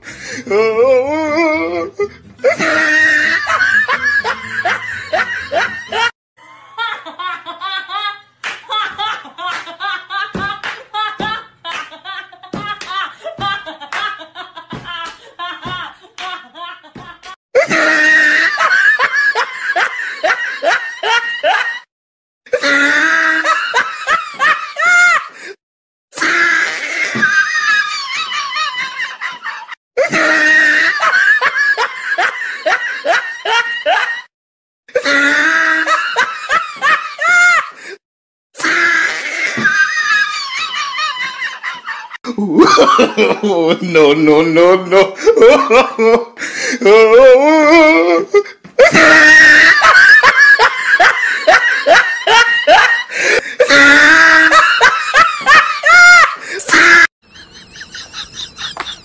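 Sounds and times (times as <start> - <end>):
person laughing: 1.2 - 21.9, 26.2 - 34.3, 38.6 - 59.0.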